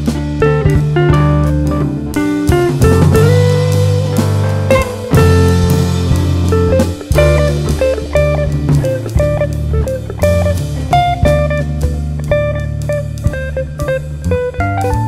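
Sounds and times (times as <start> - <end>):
guitar with bass and drums: 0.0 - 15.0.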